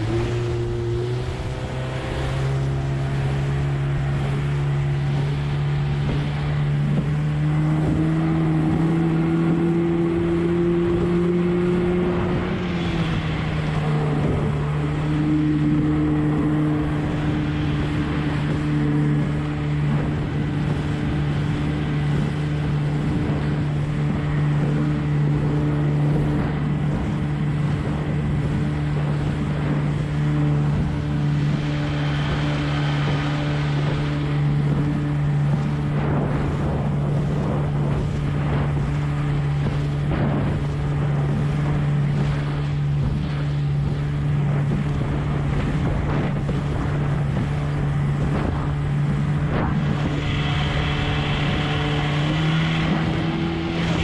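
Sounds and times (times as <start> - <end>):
outboard engine running: 0.0 - 54.0
water slapping against hull: 0.0 - 54.0
wind on microphone: 0.0 - 54.0.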